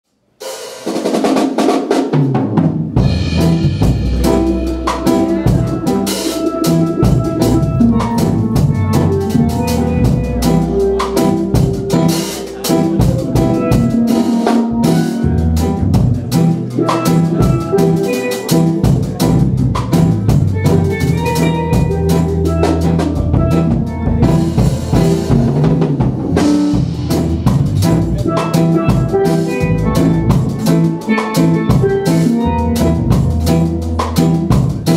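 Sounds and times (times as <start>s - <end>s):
drum kit with cymbals: 0.3s - 34.9s
electronic keyboard: 3.0s - 34.9s
steel pan melody: 3.2s - 19.2s, 20.1s - 34.6s.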